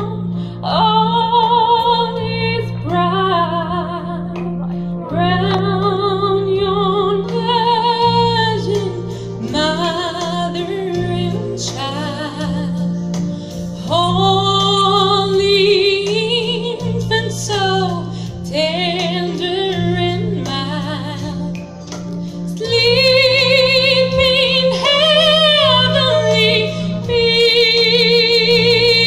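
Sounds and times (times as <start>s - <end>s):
woman singing a hymn: 0.0s - 12.8s, 13.8s - 21.6s, 22.5s - 29.0s
low keyboard chords: 0.0s - 29.0s.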